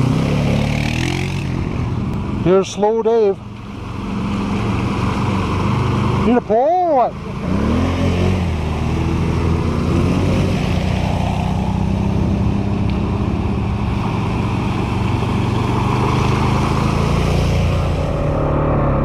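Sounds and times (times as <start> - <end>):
atv engine running: 0.0 - 18.9.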